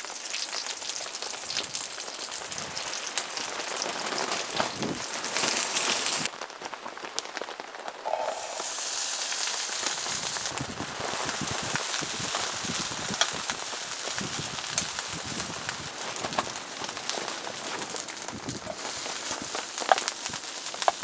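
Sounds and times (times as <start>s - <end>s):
rain pattering on a tent: 0.0s - 8.0s, 8.6s - 21.0s.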